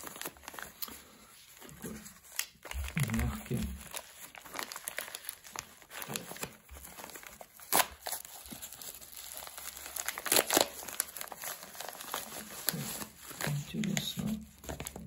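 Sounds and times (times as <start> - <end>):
padded paper envelope crinkling: 0.0 - 15.0.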